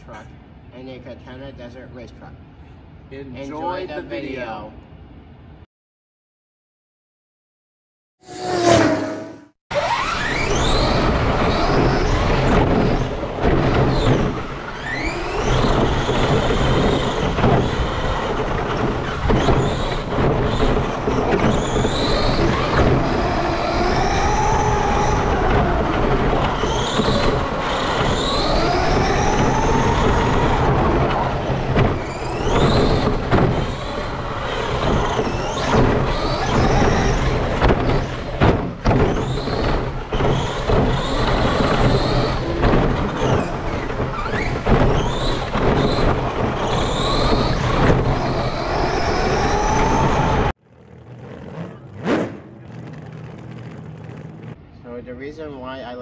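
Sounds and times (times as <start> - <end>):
tyres rumbling on dirt: 9.7 - 54.7.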